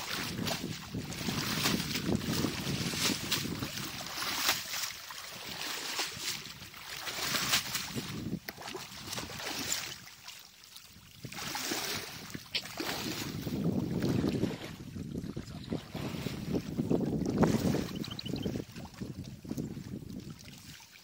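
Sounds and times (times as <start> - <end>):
muddy water splashing and sloshing: 0.0 - 21.0.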